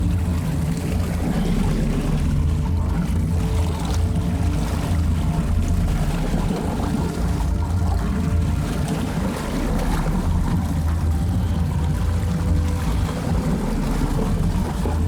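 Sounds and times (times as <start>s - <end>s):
boat motor running: 0.0s - 15.0s
water noise: 0.0s - 15.0s.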